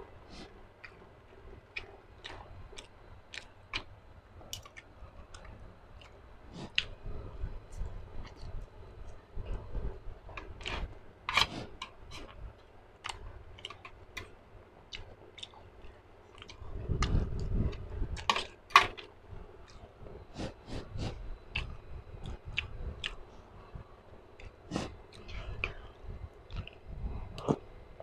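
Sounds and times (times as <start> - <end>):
person chewing food: 0.2 - 3.9, 4.5 - 9.7, 10.3 - 23.3, 24.4 - 27.7.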